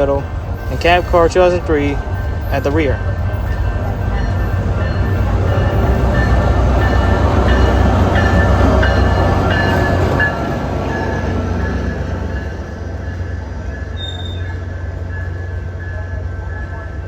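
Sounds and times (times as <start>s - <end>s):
train engine and wheels rumbling: 0.0s - 17.0s
wheels squealing on rails: 0.0s - 17.0s.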